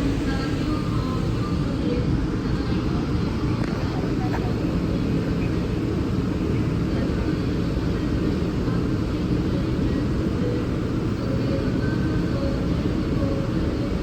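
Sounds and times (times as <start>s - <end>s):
faint steady tones: 0.0s - 14.0s
train rumbling: 0.0s - 14.0s.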